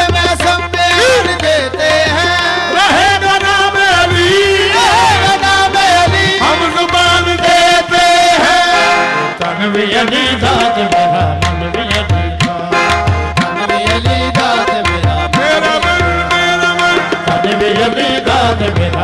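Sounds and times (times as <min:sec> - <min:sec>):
harmonium melody: 0:00.0 - 0:19.0
tabla drumming: 0:00.0 - 0:19.0.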